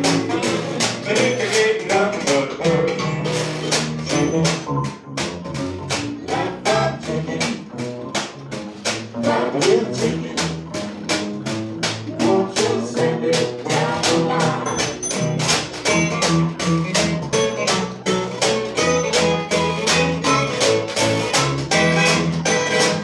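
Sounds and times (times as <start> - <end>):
swing band playing: 0.0 - 23.0
upright bass notes: 0.0 - 23.0
washboard beat: 0.0 - 23.0.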